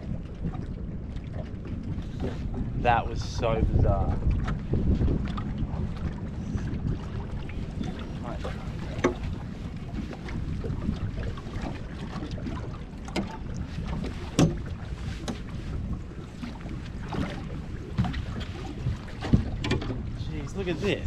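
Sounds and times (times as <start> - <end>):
water lapping against boat hull: 0.0 - 21.0
wind buffeting microphone: 0.0 - 21.0.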